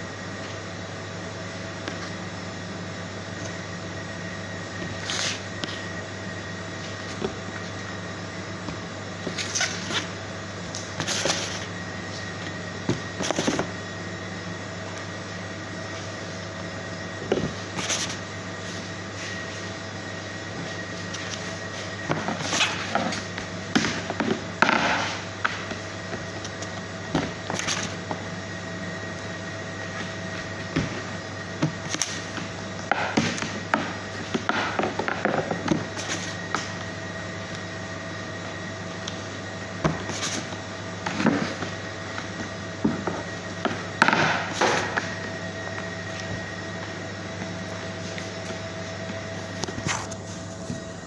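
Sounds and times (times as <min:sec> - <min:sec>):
machine hum: 0:00.0 - 0:51.0.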